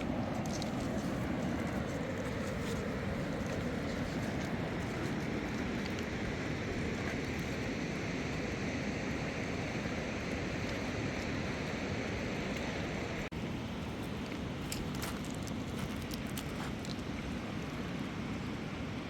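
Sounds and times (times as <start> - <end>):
steady outdoor rushing noise: 0.0 - 19.0.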